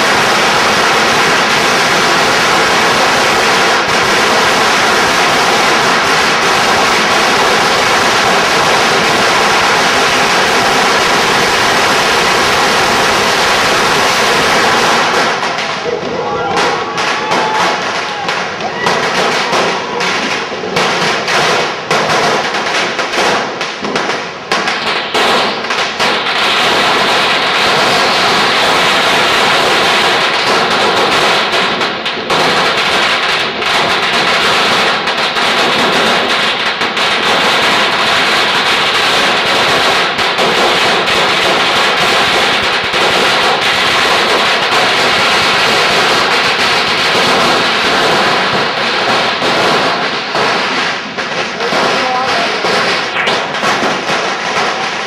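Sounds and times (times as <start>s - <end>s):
firecrackers banging: 0.0s - 55.0s.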